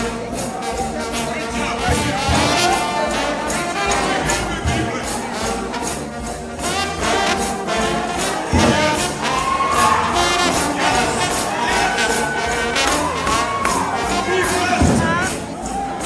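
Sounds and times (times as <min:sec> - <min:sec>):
brass band playing loudly: 0:00.0 - 0:16.0
trombone sliding between notes: 0:00.0 - 0:16.0.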